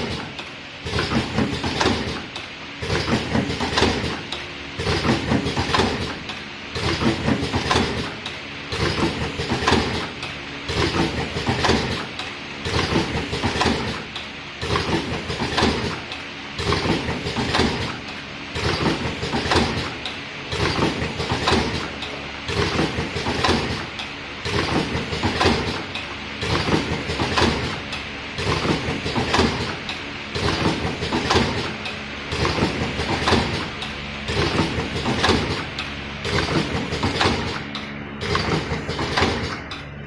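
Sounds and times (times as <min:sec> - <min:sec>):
packing machine clattering: 0:00.0 - 0:40.0.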